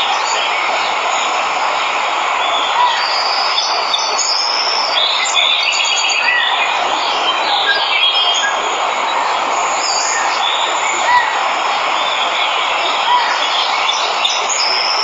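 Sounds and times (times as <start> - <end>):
birds chirping and trilling: 0.0 - 15.0
waterfall rushing: 0.0 - 15.0.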